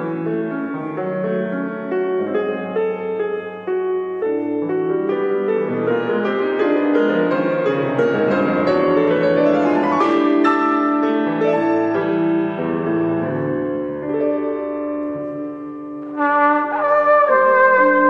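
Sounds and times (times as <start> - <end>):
piano playing slow chords: 0.0 - 16.7.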